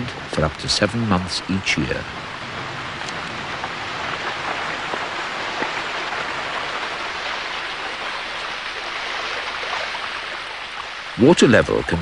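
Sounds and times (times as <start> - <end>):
rain on water hissing: 0.0 - 12.0.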